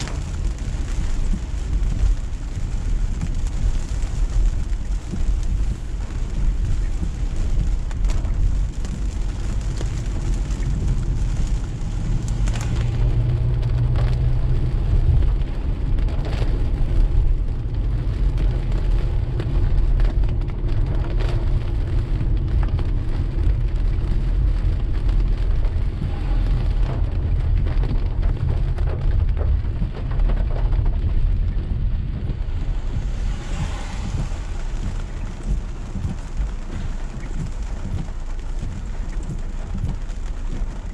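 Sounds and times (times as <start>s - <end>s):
rain hitting a car: 0.0s - 40.9s
road and engine rumble: 0.0s - 40.9s.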